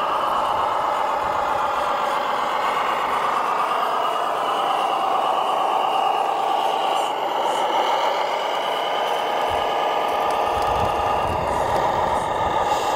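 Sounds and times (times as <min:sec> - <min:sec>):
electric model truck whine: 0:00.0 - 0:12.9.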